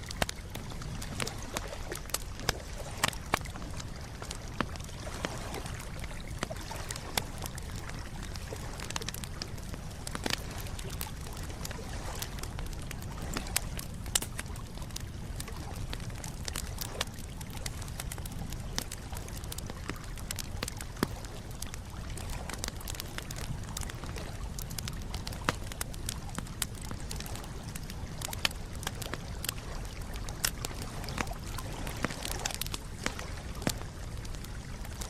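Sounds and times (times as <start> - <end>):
campfire crackling and popping: 0.0 - 35.0
flames rushing: 0.0 - 35.0.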